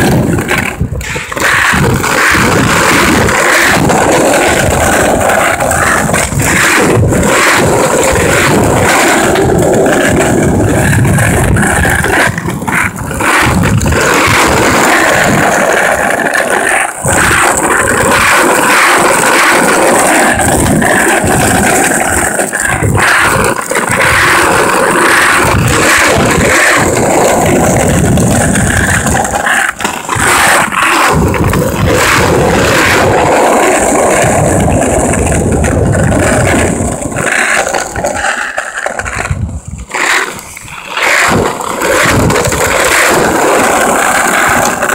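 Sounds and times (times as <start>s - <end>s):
wheels rumbling on pavement: 0.0s - 44.9s.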